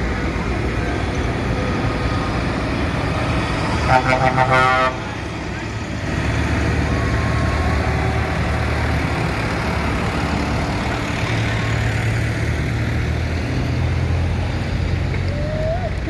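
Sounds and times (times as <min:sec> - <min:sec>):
diesel tractor engines droning: 0:00.0 - 0:16.0.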